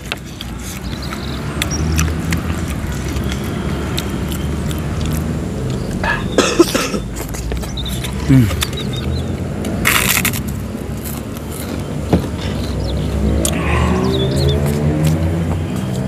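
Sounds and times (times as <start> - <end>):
person chewing: 0.0 - 6.4, 7.0 - 16.0.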